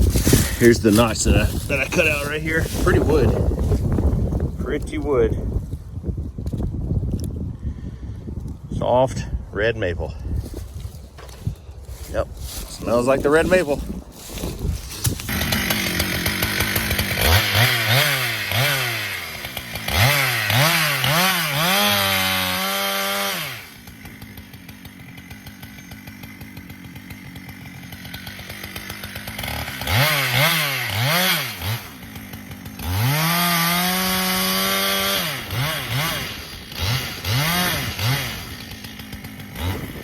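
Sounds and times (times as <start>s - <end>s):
chainsaw idling: 0.0s - 5.0s, 11.1s - 40.0s
chainsaw revving cutting wood: 0.0s - 5.1s, 11.2s - 40.0s.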